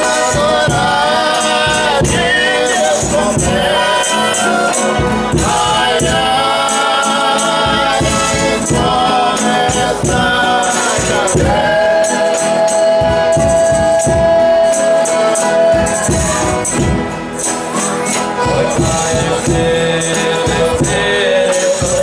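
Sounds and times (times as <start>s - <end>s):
group of voices singing: 0.0s - 22.0s
tambourine beats: 0.0s - 22.0s.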